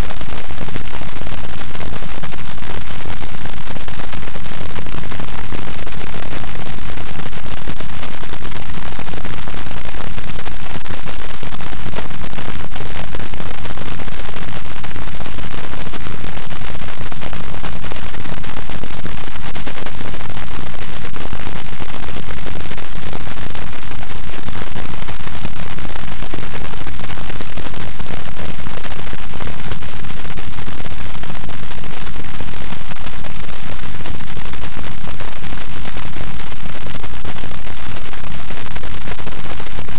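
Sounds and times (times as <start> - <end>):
loud static noise with crackle: 0.0 - 39.9.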